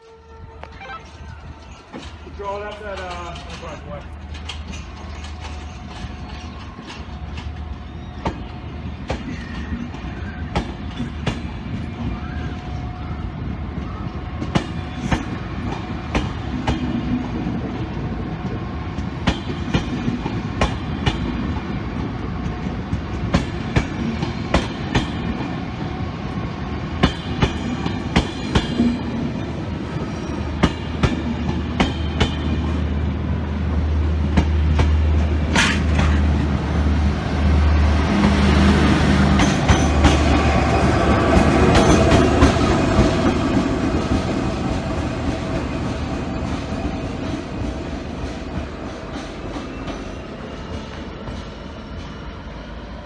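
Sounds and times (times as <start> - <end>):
train rumble: 0.0 - 53.0
train wheels clicking over rail joints: 0.7 - 12.8, 13.6 - 52.4.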